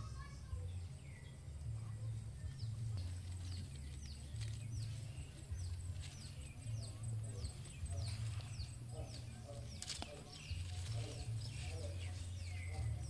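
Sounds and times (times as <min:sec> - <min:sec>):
bird chirping: 0:00.0 - 0:13.0
steady low rumble: 0:00.0 - 0:13.0.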